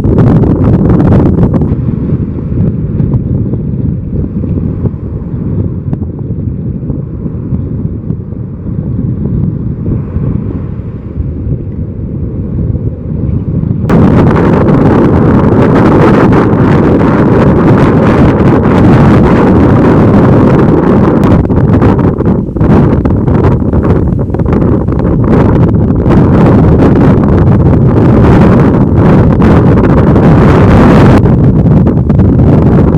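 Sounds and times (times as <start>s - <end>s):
ocean waves breaking: 0.0s - 32.9s
wind buffeting microphone: 0.0s - 32.9s.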